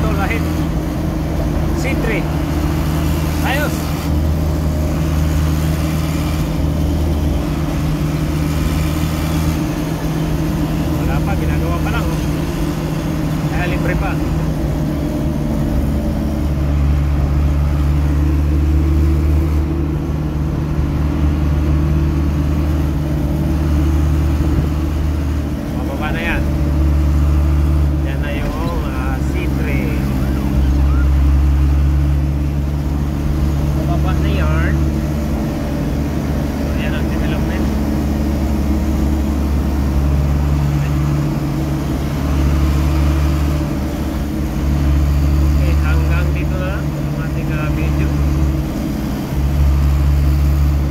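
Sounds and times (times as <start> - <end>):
road noise: 0.0 - 50.9
vehicle engine drone: 0.0 - 50.9.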